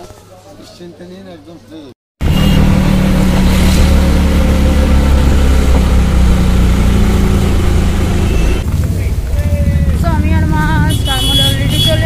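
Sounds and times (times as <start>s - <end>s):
street noise: 0.0s - 12.0s
vehicle engine humming: 2.2s - 12.0s.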